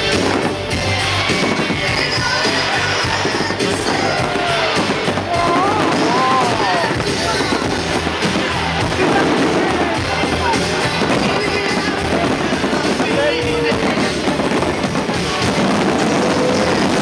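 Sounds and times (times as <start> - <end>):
fireworks exploding: 0.0 - 17.0
loud music: 0.0 - 17.0.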